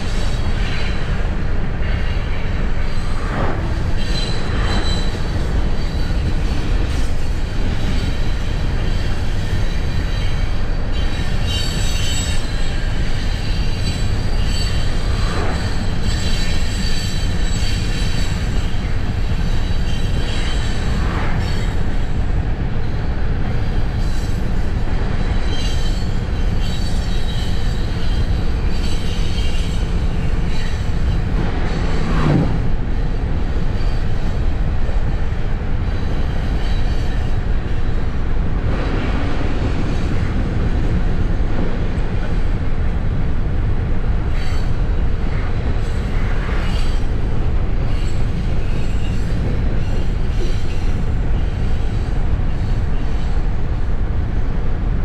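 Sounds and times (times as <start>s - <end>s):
car road and wind noise: 0.0s - 55.0s
train cars rumbling on rails: 0.0s - 55.0s.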